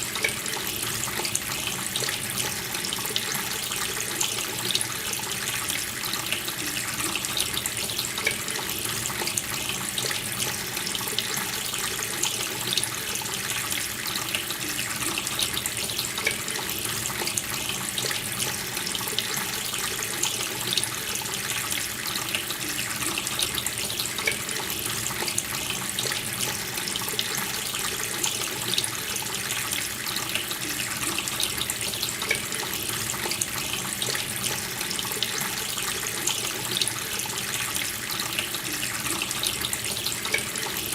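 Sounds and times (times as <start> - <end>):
tap water splashing into sink: 0.0 - 40.9.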